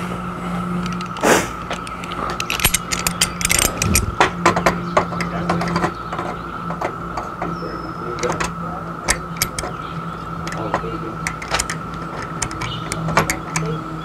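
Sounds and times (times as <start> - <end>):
steady low hum: 0.0 - 14.0
metal clicks and rattles: 0.8 - 13.8.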